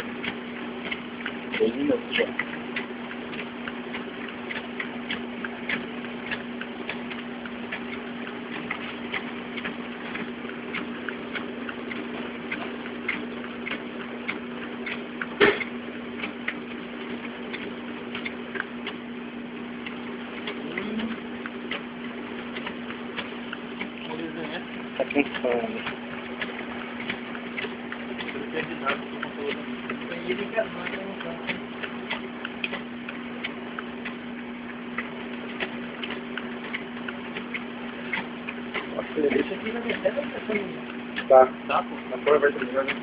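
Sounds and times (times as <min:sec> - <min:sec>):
rapid clicks of sheets feeding: 0:00.0 - 0:43.0
scanner motor hum: 0:00.0 - 0:43.0.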